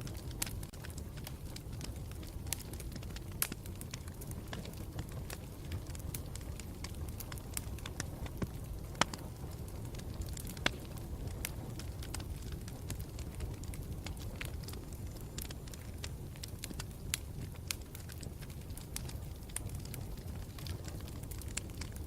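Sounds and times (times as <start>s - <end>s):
burning wood crackling and popping: 0.0s - 22.0s
campfire rumbling: 0.0s - 22.0s.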